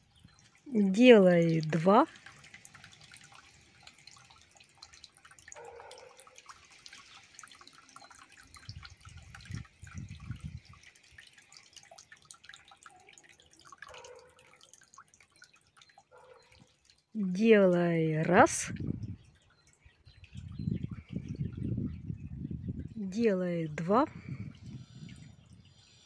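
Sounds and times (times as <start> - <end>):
fountain water trickling: 0.0 - 26.0.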